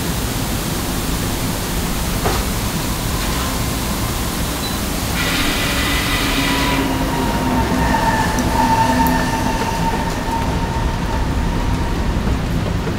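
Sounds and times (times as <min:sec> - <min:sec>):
continuous rushing noise: 0:00.0 - 0:12.9.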